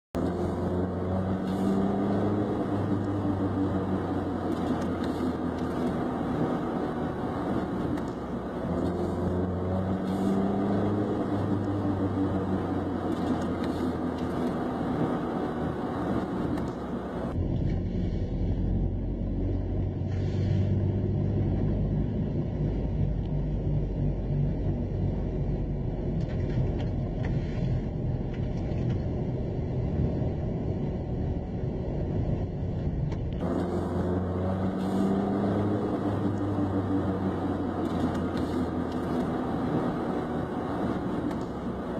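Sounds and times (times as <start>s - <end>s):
car engine: 0.0s - 41.9s
road drone: 0.0s - 41.9s.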